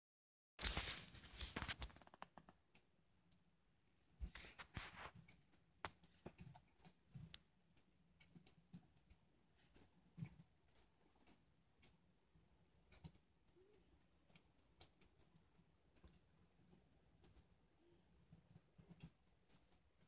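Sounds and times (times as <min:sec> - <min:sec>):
birds pecking and cracking seed: 0:00.6 - 0:03.5, 0:04.2 - 0:12.1, 0:12.8 - 0:20.0.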